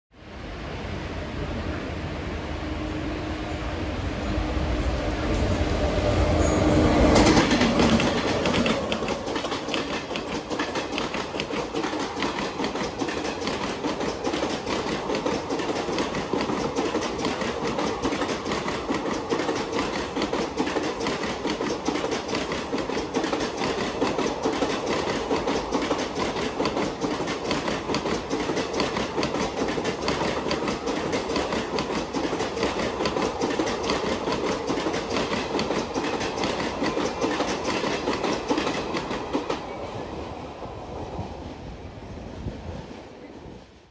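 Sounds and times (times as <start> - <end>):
train rumble: 0.2 - 43.9
wheels clickety-clack over rail joints: 4.9 - 40.4.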